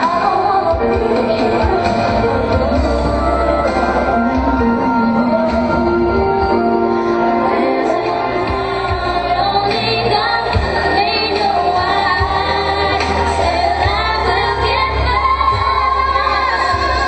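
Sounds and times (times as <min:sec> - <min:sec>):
heavy bass: 0:00.0 - 0:17.0
woman singing: 0:00.0 - 0:17.0.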